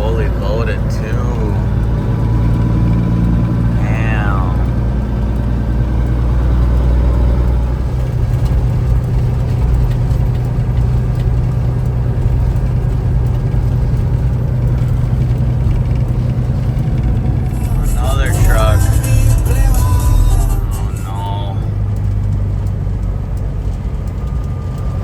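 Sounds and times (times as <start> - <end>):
diesel truck engine drone: 0.0 - 25.0.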